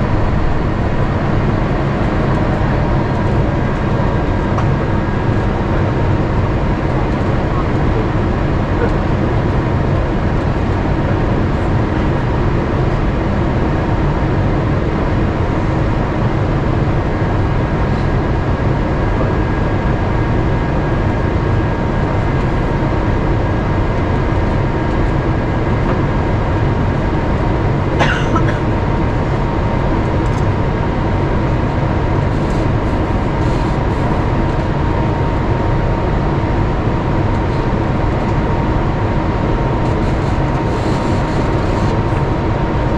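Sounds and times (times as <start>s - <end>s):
jet engines rumbling: 0.0s - 42.9s.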